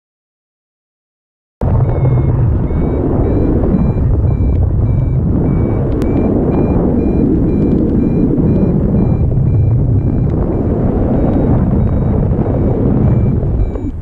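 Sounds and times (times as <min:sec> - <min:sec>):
wind buffeting microphone: 0:01.6 - 0:14.0
variometer beeping: 0:01.7 - 0:14.0.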